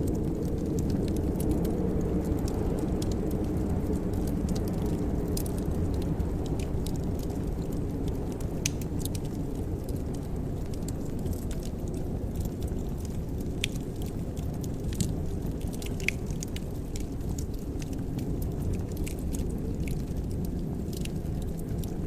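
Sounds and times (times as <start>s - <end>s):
fire burning with low rumble: 0.0s - 22.0s
fire crackles and pops: 0.0s - 22.0s.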